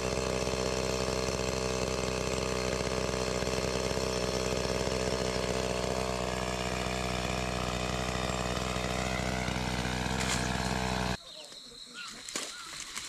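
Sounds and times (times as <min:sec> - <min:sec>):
chainsaw engine running: 0:00.0 - 0:11.2.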